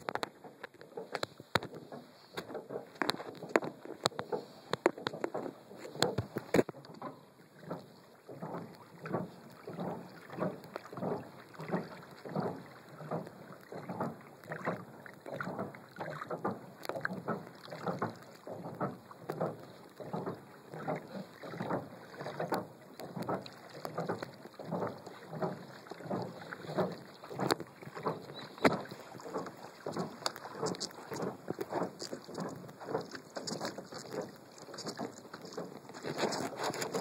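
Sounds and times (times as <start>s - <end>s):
water swishing against kayak hull: 0.0s - 37.0s.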